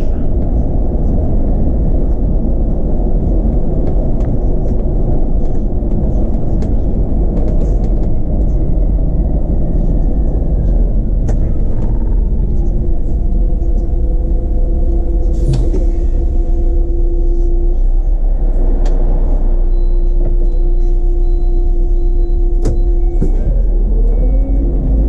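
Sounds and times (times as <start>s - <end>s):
bus engine and road rumble: 0.0s - 25.0s
steady whine: 0.0s - 25.0s.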